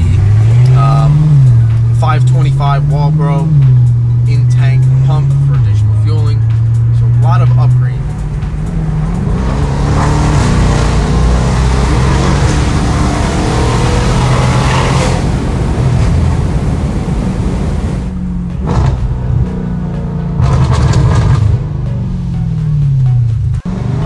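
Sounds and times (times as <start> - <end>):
car engine at full throttle: 0.0 - 24.0.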